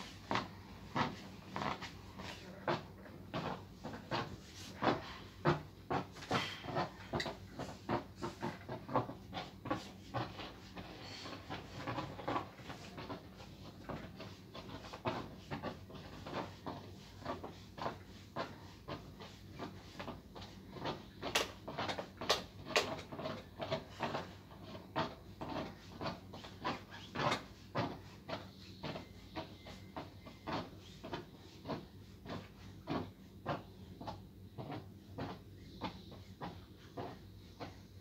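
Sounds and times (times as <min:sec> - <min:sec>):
garment steamer humming: 0:00.0 - 0:38.0.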